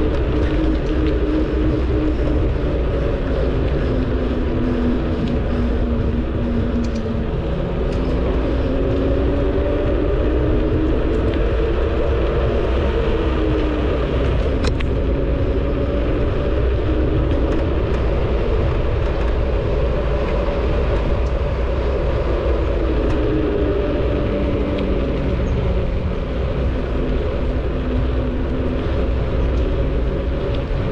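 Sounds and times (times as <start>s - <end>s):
low wavering hum: 0.0s - 30.9s
wind rushing over microphone: 0.0s - 30.9s.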